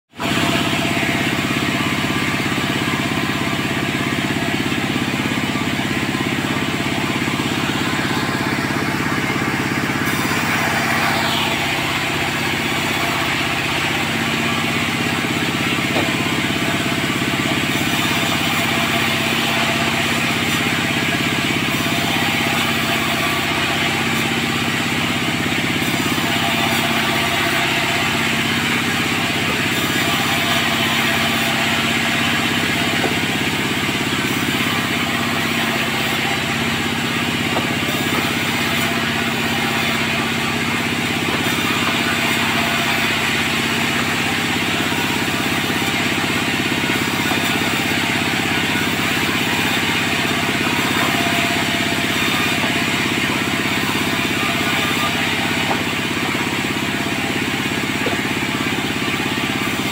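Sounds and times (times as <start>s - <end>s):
sawmill machinery droning: 0.1s - 59.9s.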